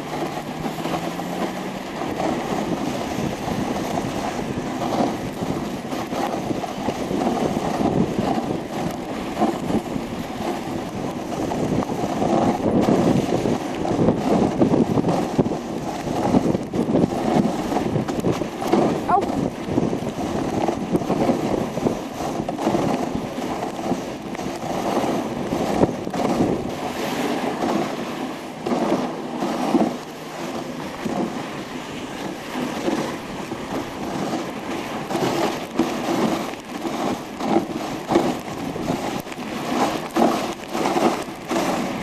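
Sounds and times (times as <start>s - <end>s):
sled knocks and jolts: 0.0s - 42.0s
sled runners scraping on snow: 0.0s - 42.0s.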